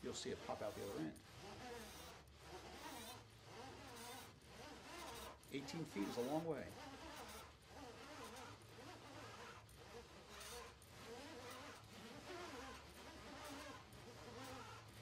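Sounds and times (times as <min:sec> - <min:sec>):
flexible shaft rubbing: 0:00.0 - 0:15.0.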